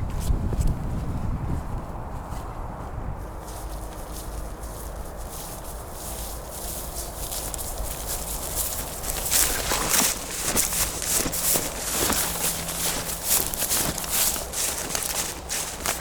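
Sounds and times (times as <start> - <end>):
crunching footsteps on trail: 0.0 - 16.0.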